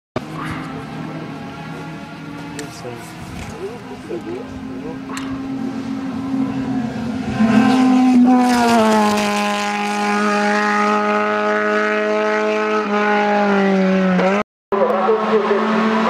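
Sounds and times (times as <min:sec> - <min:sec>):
racing car engine at high revs: 0:00.2 - 0:16.0.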